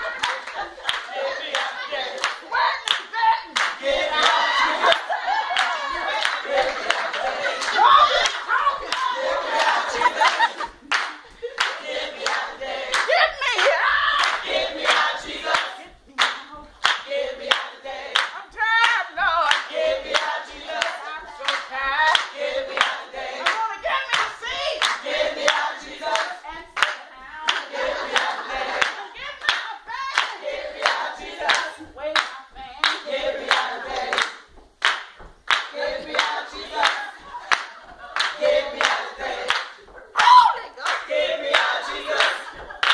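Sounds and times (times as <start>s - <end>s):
group singing gospel chant: 0.0s - 42.9s
hand clapping: 0.0s - 42.9s.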